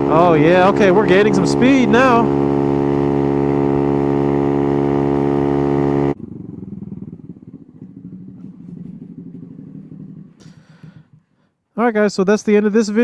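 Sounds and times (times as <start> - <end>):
motorcycle engine at high revs: 0.0 - 11.3
low pulsing engine sound: 0.0 - 11.8.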